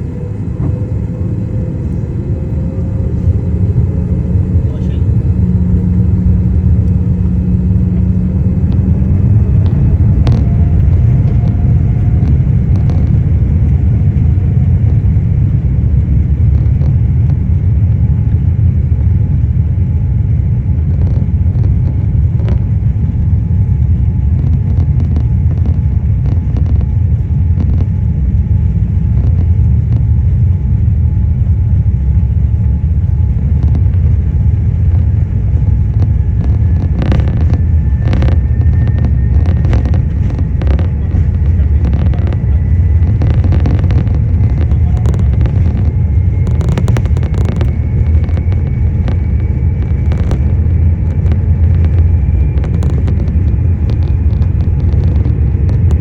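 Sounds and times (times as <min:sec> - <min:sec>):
airplane engines rumbling in cabin: 0:00.0 - 0:56.0
faint rising whine: 0:00.0 - 0:56.0
low hum: 0:00.0 - 0:56.0.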